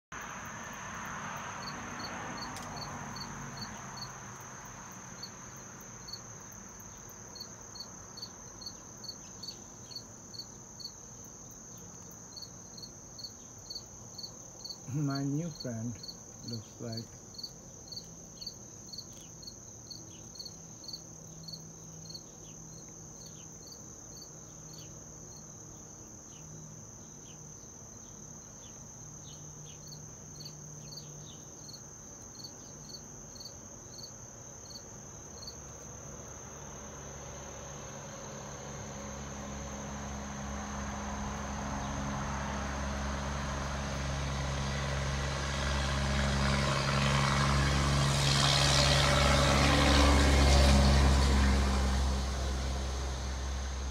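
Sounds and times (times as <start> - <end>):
high insect buzz: 0.2 - 53.9.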